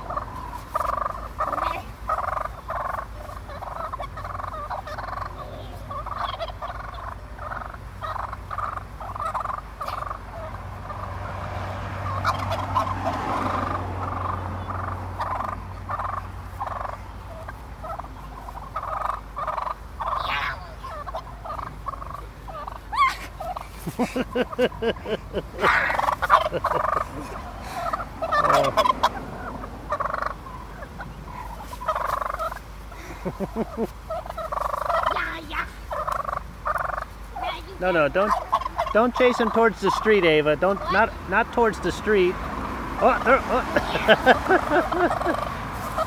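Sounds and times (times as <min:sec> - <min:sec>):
wild turkeys calling: 0:00.0 - 0:46.0.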